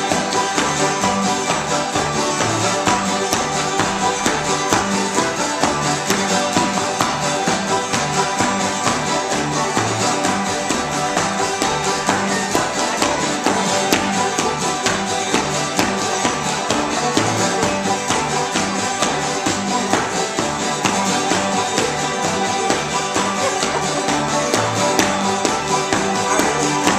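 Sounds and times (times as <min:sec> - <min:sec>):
guitars strumming: 0:00.0 - 0:26.9
shoes tapping on wooden floor: 0:00.0 - 0:26.9
walking bass line: 0:00.0 - 0:26.9.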